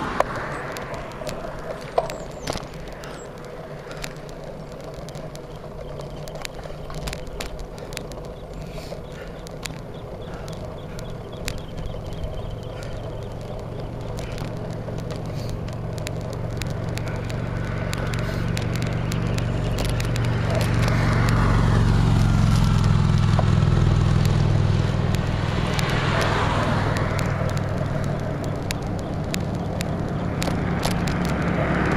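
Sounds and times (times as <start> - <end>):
car passing: 0.0 - 31.9
wind rumbling on microphone: 0.0 - 31.9
light clicks: 0.2 - 31.9.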